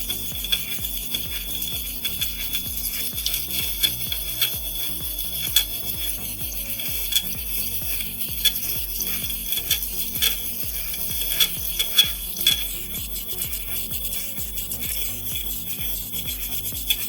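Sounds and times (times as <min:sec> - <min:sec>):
background music: 0:00.0 - 0:17.0
scraping: 0:00.0 - 0:17.0
steady hiss: 0:00.0 - 0:17.0.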